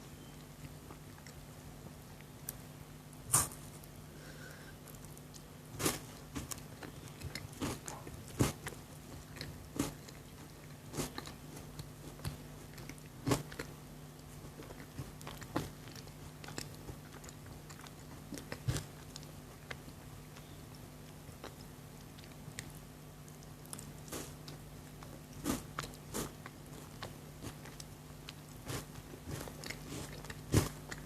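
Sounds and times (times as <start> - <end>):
faint low hum: 0.0 - 31.0
chewing chocolate crunches: 0.1 - 4.0, 4.8 - 31.0.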